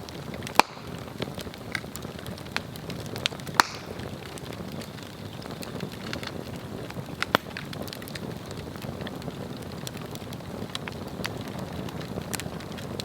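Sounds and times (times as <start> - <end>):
log burning and crackling: 0.0 - 13.0
sharp pops of burning wood: 0.0 - 13.0.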